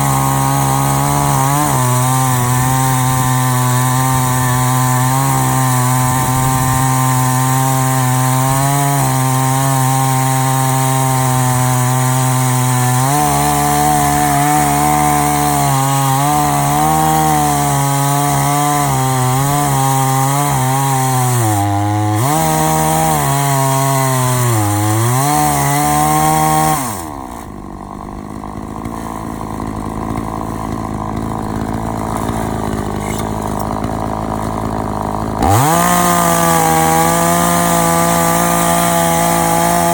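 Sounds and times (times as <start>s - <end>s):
chainsaw cutting at full throttle: 0.0s - 39.9s
chainsaw idling: 0.0s - 39.9s.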